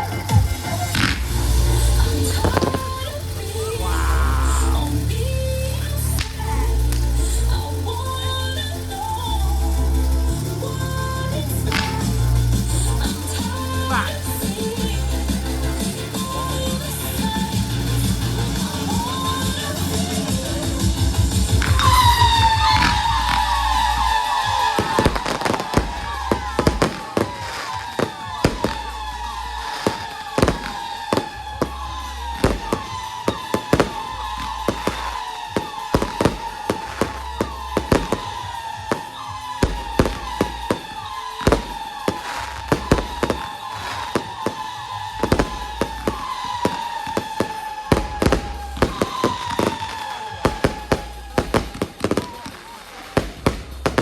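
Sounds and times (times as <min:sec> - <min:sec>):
fireworks bangs: 0:00.0 - 0:54.0
fireworks whistles: 0:00.0 - 0:54.0.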